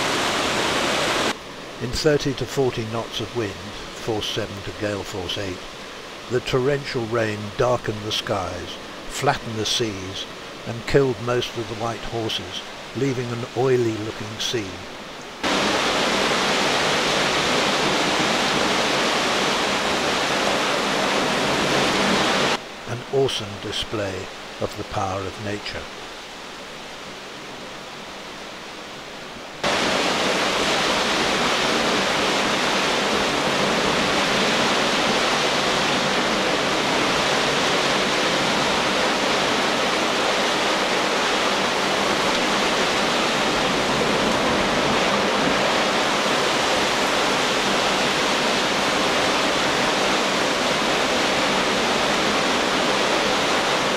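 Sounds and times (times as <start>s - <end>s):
torrential rain: 0.0s - 24.6s, 25.2s - 53.9s
gale-force wind: 0.0s - 53.9s.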